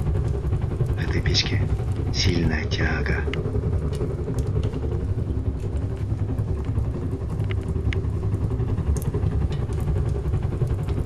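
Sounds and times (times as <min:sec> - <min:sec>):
sharp ticks: 0:00.0 - 0:11.0
stove firebox rumbling: 0:00.0 - 0:11.0.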